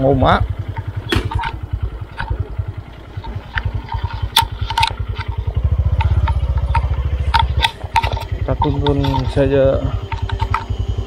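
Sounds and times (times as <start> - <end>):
small motorcycle engine: 0.0 - 11.0
sharp clacks and knocks: 0.6 - 10.7.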